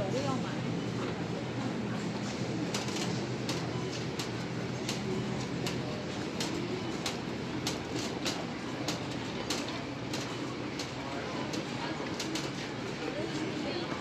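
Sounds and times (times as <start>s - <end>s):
low store hum: 0.0s - 14.0s.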